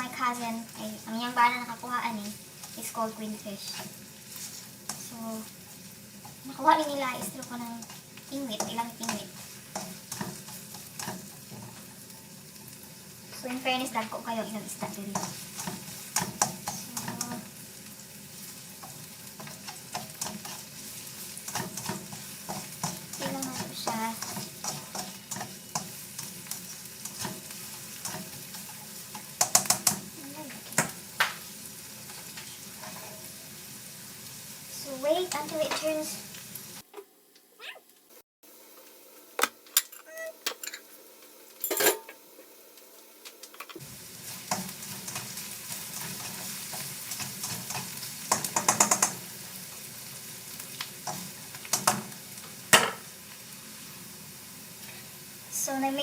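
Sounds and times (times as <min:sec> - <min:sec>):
food sizzling in oil: 0:00.0 - 0:36.9, 0:40.1 - 0:56.0.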